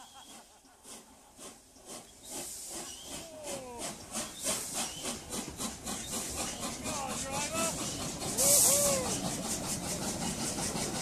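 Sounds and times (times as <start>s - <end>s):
steam hissing: 0.0s - 11.0s
steam locomotive exhaust beats: 0.0s - 11.0s.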